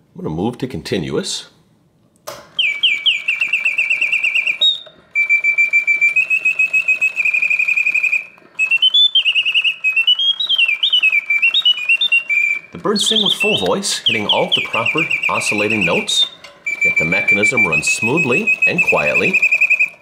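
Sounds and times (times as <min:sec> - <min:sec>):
mechanical bird whistle trilling: 0:02.6 - 0:20.0.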